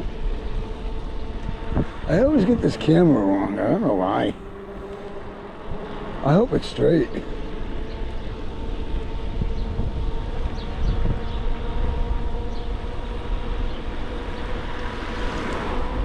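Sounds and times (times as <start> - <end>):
electric bike motor whine: 0.0 - 16.0
wind buffeting microphone: 0.0 - 16.0.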